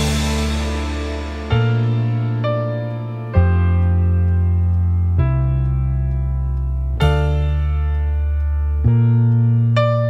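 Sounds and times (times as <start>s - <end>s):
slow sustained keyboard chords: 0.0s - 10.0s.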